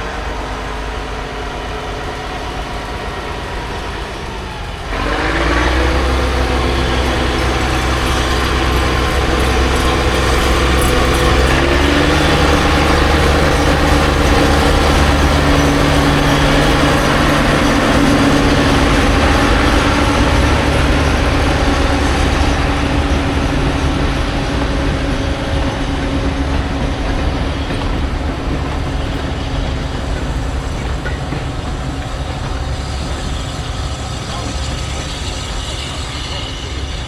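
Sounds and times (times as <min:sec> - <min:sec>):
train running: 0:00.0 - 0:37.0.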